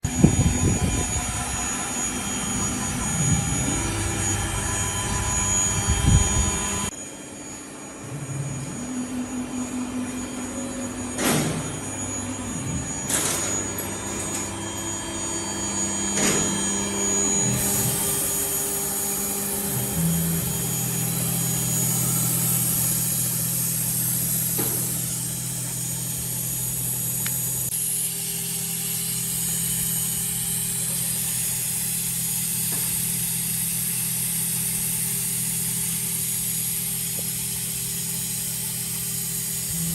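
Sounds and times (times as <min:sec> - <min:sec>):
routing machine motor hum: 0:00.0 - 0:39.9.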